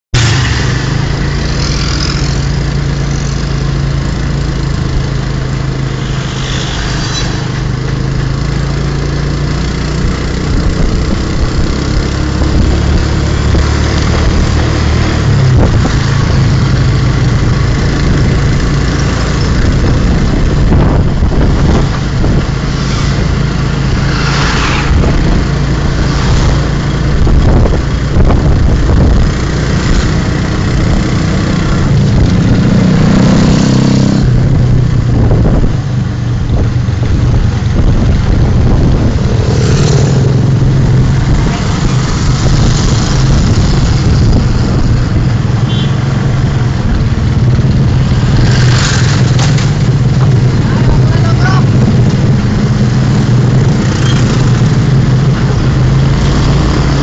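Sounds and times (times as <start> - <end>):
road and wind rush: 0.1 - 57.0
low engine hum: 0.2 - 57.0.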